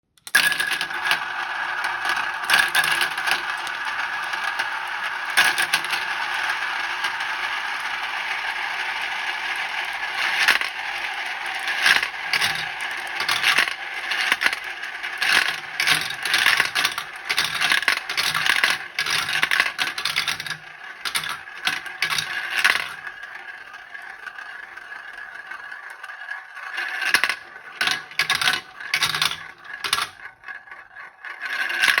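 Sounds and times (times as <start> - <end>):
marbles rattling down wooden run: 0.3 - 32.0.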